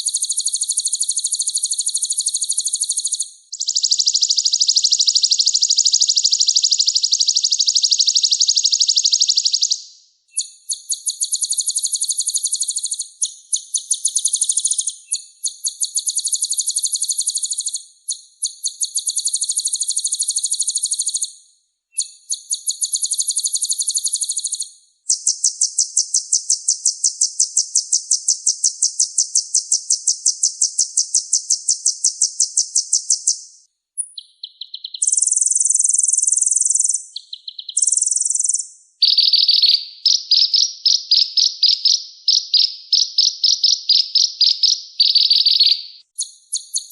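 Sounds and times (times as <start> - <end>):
sunbird singing rapid trills: 0.0 - 21.3, 21.9 - 46.9.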